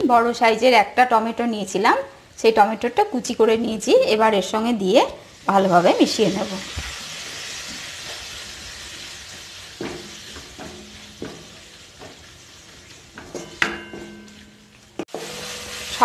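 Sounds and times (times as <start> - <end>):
tomato sizzling in oil: 2.4 - 16.0.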